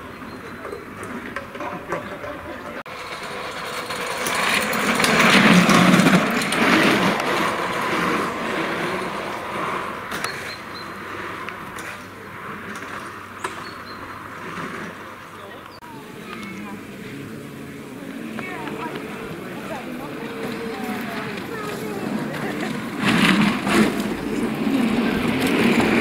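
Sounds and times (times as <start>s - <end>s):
racing car passing by: 2.8s - 26.0s.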